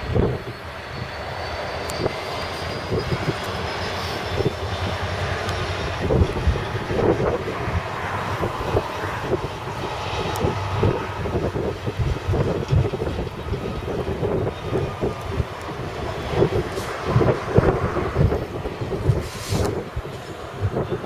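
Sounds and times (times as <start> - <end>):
diesel locomotive engine: 0.0 - 21.0.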